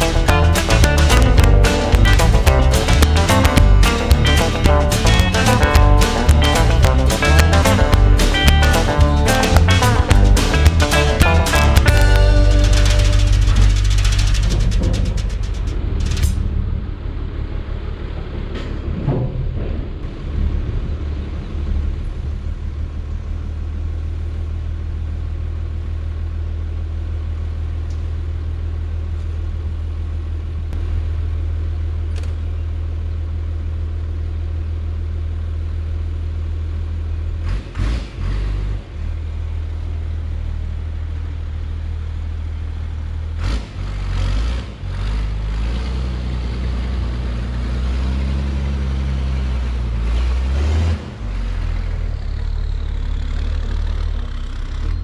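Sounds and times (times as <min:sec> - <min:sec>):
diesel truck engine idling: 0:00.0 - 0:18.9, 0:19.8 - 0:55.0.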